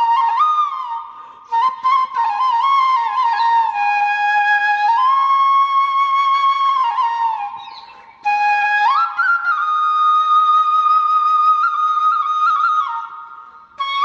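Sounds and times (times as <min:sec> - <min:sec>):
solo flute melody: 0:00.0 - 0:14.0.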